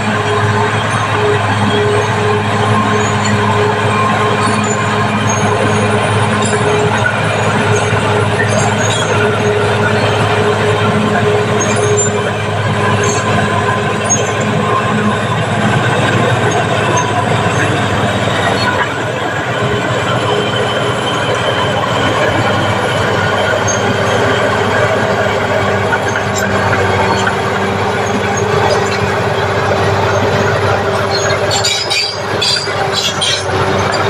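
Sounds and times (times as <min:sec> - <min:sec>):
bulldozer diesel engine running: 0:00.0 - 0:34.0
steel tracks squealing and clattering: 0:00.0 - 0:34.0.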